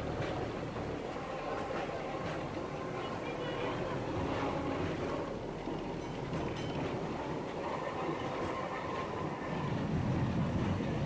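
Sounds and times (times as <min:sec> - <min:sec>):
tram wheels rumbling on track: 0:00.0 - 0:11.0.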